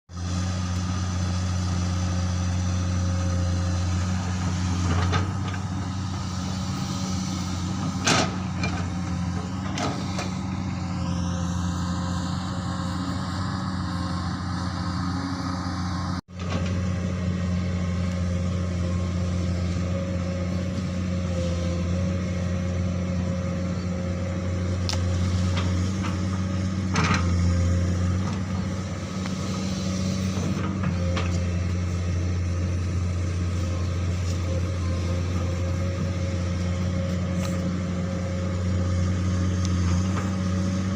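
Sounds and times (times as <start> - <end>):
excavator diesel engine running: 0.1 - 40.9.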